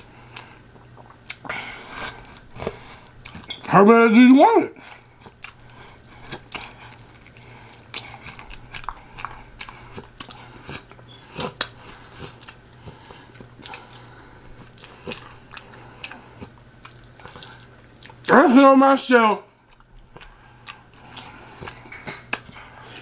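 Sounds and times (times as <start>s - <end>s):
person chewing food: 0.0s - 3.7s, 4.8s - 18.3s, 19.5s - 23.0s.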